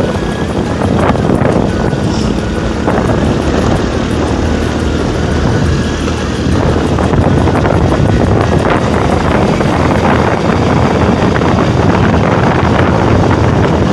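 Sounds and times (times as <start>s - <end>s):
motorcycle engine running: 0.0s - 13.9s
wind on microphone: 0.0s - 13.9s.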